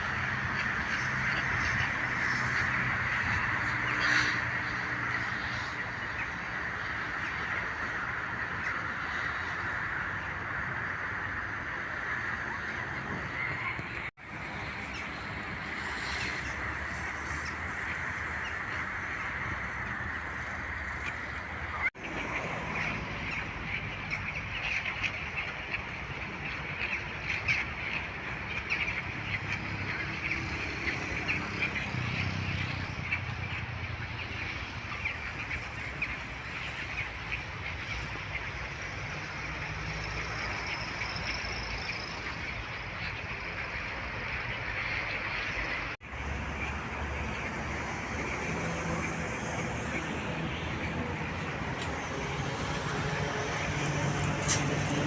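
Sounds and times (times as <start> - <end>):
flock of birds chattering: 0.0 - 55.0.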